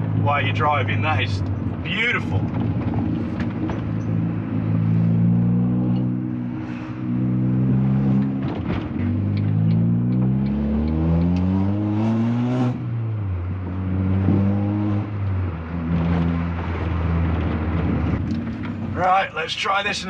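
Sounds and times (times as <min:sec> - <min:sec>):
car engine accelerating: 0:00.0 - 0:19.1.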